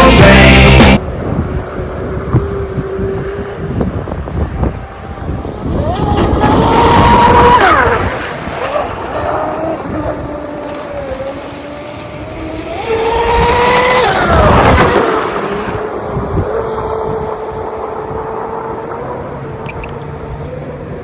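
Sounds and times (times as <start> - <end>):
model boat motor whining: 0.0 - 21.0.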